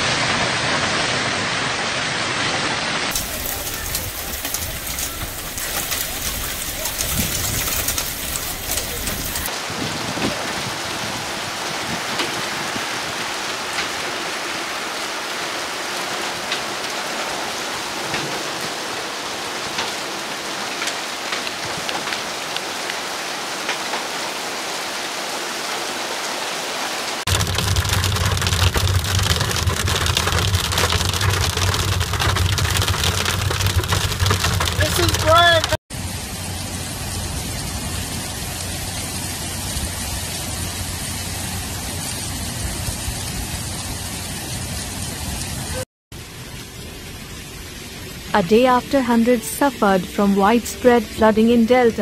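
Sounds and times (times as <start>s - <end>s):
heavy rain and hail pelting: 0.0s - 52.0s.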